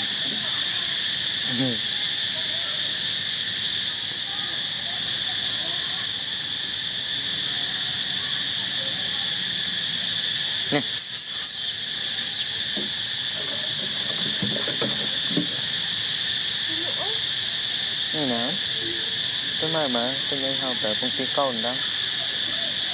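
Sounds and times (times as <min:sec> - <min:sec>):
insects droning: 0:00.0 - 0:22.9.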